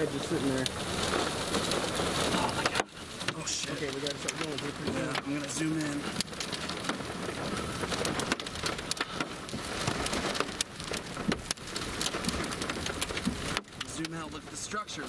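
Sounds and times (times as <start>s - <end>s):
heavy rain on a vehicle roof: 0.0s - 15.0s
raindrops ticking: 0.0s - 15.0s.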